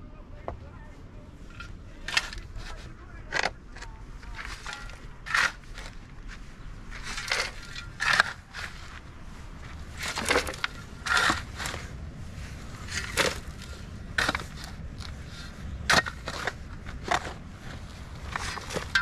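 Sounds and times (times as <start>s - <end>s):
shovel scraping stony soil: 1.5s - 19.0s.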